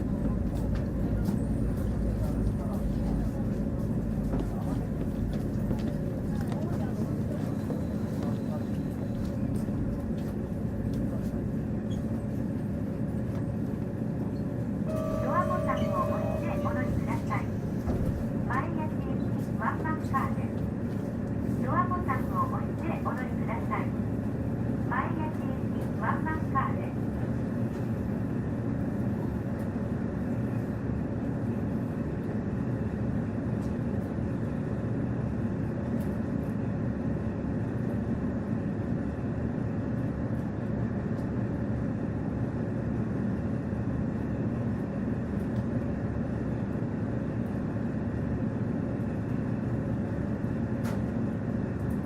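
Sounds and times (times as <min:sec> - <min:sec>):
wheel and rail rumble: 0:00.0 - 0:52.0.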